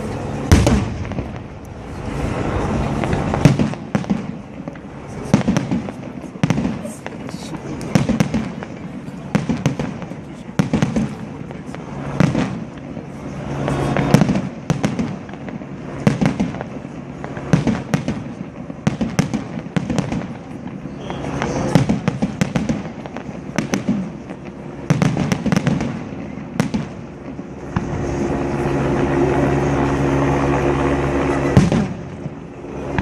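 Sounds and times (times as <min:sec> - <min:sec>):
fireworks bangs and crackling: 0:00.0 - 0:33.0
steady low hum: 0:00.0 - 0:33.0.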